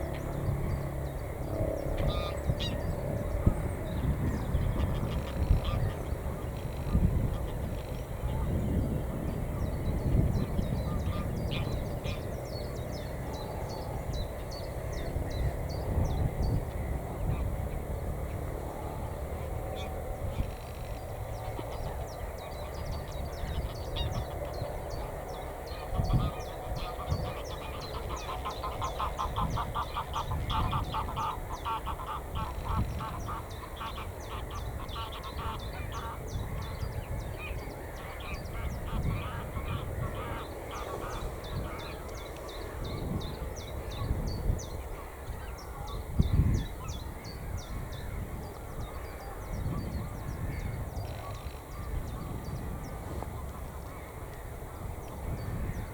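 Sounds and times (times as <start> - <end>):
water birds honking: 0.0 - 15.6, 16.2 - 55.9.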